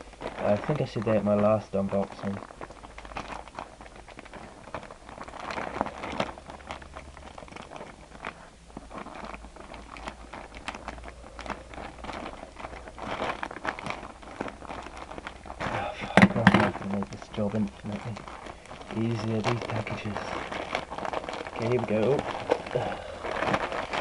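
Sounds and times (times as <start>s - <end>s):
packaging crinkling: 0.0s - 24.0s.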